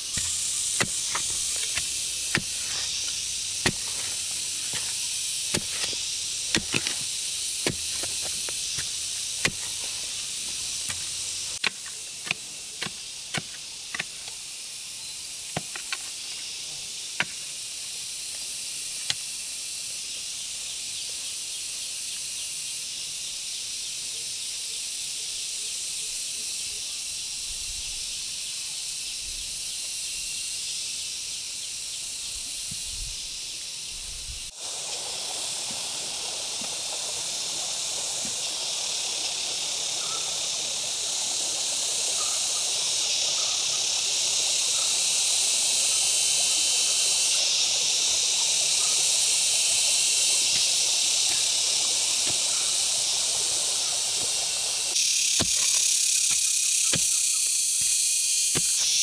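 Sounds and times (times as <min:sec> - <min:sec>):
insects hissing: 0:00.0 - 0:59.0.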